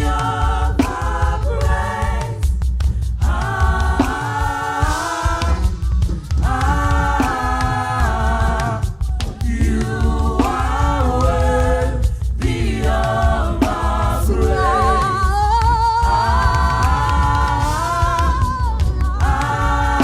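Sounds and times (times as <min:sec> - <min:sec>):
choir singing held chords: 0:00.0 - 0:20.0
drums: 0:00.0 - 0:20.0.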